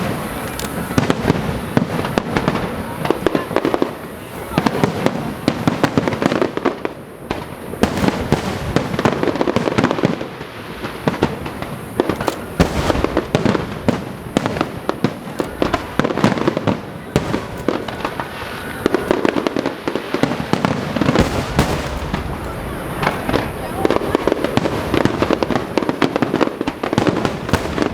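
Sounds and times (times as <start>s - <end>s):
fireworks exploding: 0.0s - 27.9s.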